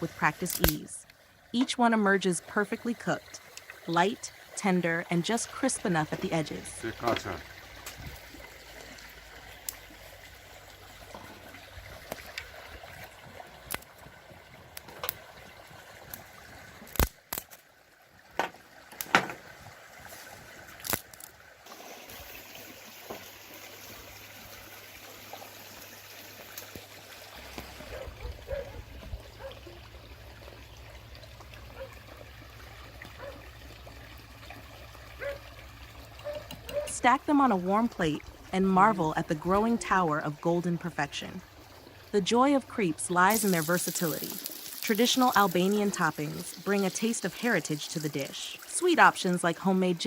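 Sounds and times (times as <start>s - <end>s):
water trickling: 0.0s - 50.0s.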